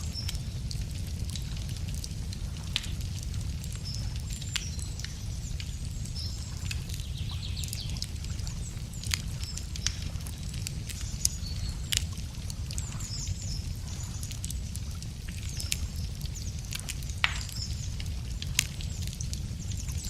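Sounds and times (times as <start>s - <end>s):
small birds twittering: 0.0s - 1.4s, 2.6s - 20.0s
wood fire crackling and popping: 0.0s - 20.0s.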